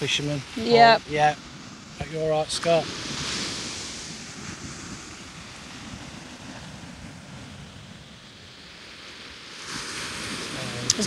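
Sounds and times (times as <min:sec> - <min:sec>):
sea surf washing on beach: 0:00.0 - 0:11.0
wind buffeting microphone: 0:00.0 - 0:11.0.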